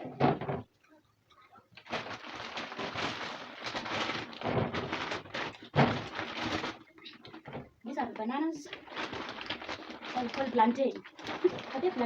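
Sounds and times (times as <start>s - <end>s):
plastic bags rustling and crinkling: 1.8s - 12.0s.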